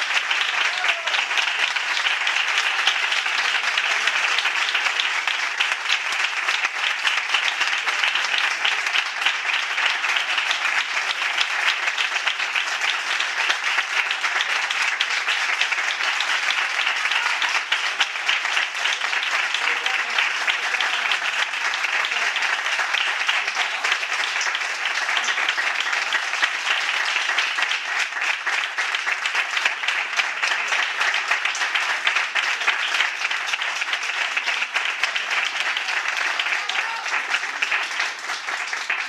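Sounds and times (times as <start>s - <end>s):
audience applauding: 0.0s - 39.0s.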